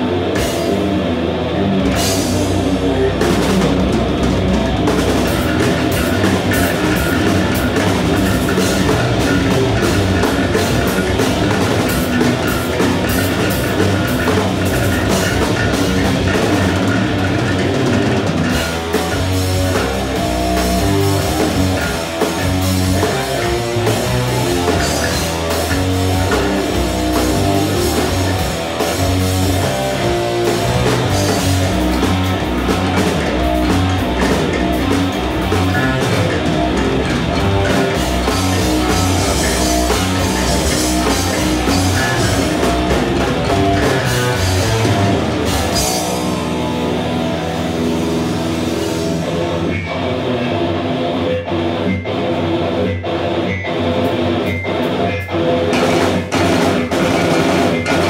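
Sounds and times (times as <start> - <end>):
bass notes: 0.0 - 51.2
rock band playing: 0.0 - 58.0.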